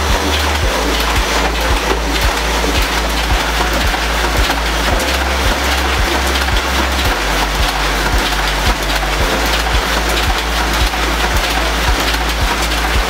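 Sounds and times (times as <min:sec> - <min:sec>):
music with beat and bass: 0:00.0 - 0:13.0
printing press running: 0:00.0 - 0:13.0.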